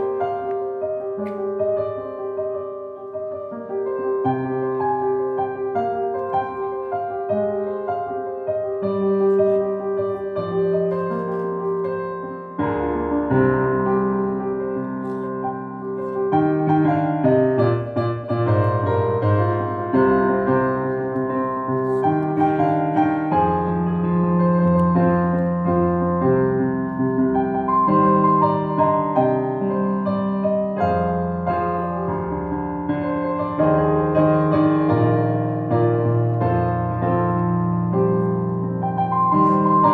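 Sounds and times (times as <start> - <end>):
solo piano playing rapid runs: 0.0 - 39.9.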